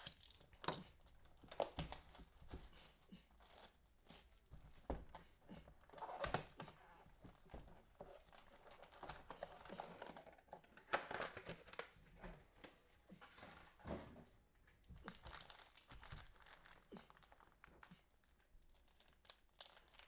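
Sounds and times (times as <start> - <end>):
plastic wrappers crinkling: 0.0 - 12.3, 14.8 - 20.0.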